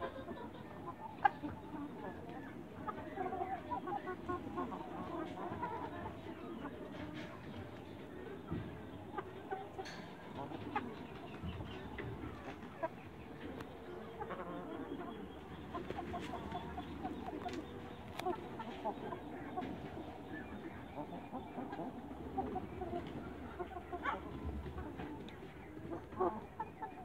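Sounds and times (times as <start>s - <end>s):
young chickens calling: 0.0s - 27.0s.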